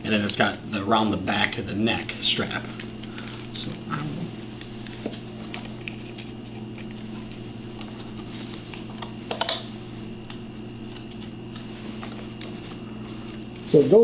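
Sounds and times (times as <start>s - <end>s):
respirator clicks and rustles: 0.0s - 14.0s
steady low hum: 0.0s - 14.0s.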